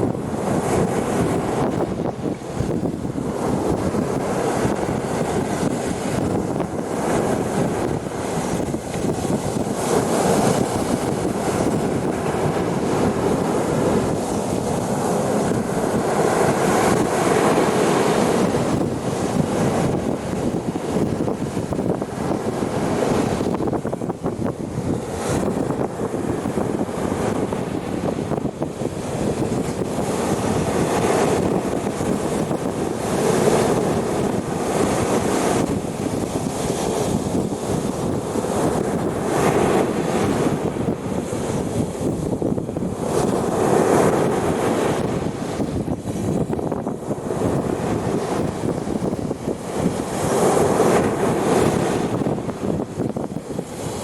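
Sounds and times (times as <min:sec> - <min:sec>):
sea waves washing onto beach: 0:00.0 - 0:54.0
wind buffeting microphone: 0:00.0 - 0:54.0.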